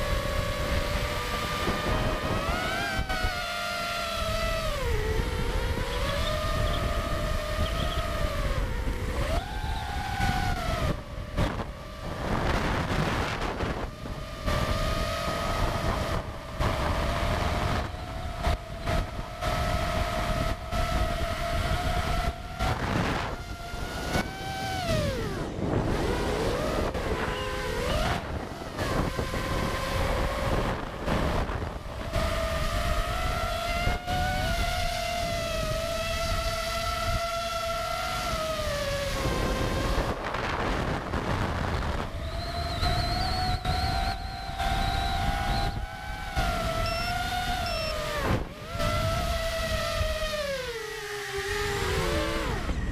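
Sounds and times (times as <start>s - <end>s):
drone motors whining: 0.0s - 52.9s
wind noise: 0.0s - 52.9s.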